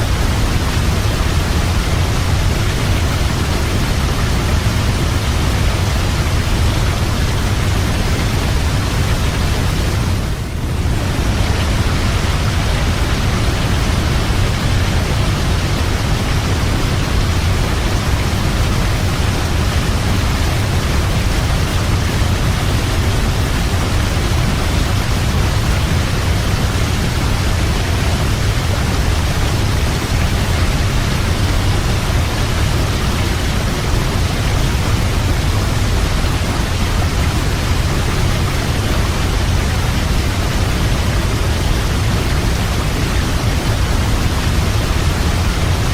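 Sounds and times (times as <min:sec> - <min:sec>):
waterfall roaring: 0:00.0 - 0:45.9.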